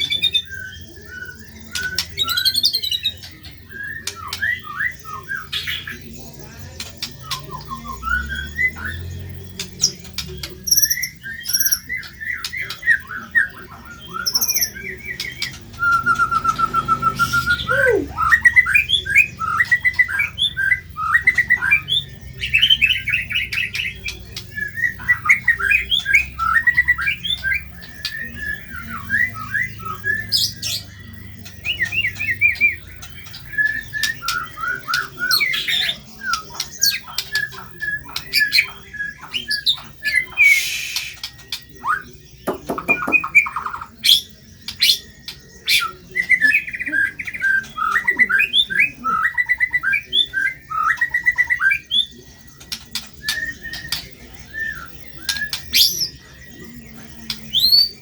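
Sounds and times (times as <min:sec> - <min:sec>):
bird singing chattering song: 0:00.0 - 0:58.0.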